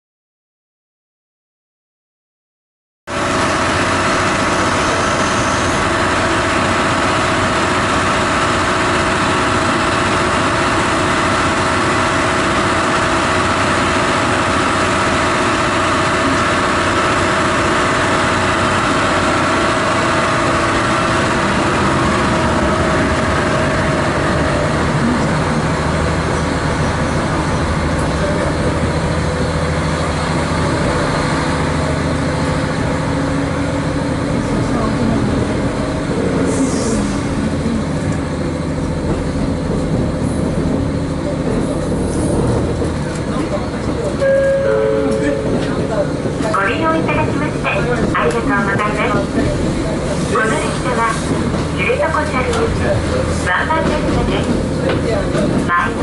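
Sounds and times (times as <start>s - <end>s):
diesel railcar engine idling: 3.1s - 56.0s.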